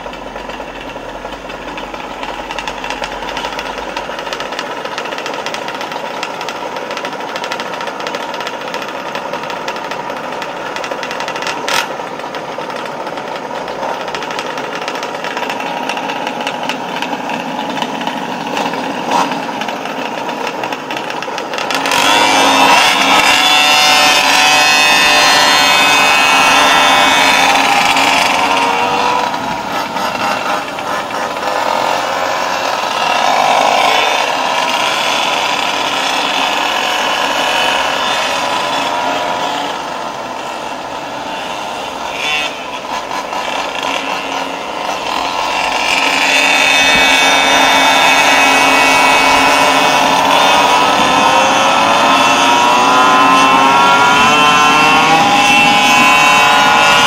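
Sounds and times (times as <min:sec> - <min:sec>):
two-stroke scooter engine whine: 0:00.0 - 0:57.0.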